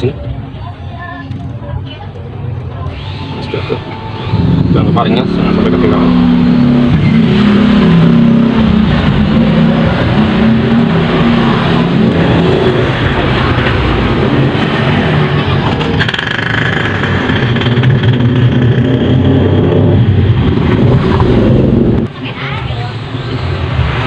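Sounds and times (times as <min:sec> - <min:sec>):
high whine: 0:02.8 - 0:24.0
vehicle engine running: 0:03.2 - 0:24.0.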